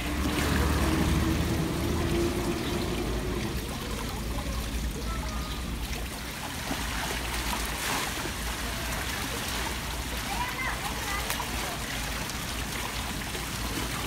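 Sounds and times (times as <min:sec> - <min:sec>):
foot splashing water: 0:00.0 - 0:14.0
fountain water trickling: 0:00.0 - 0:14.0.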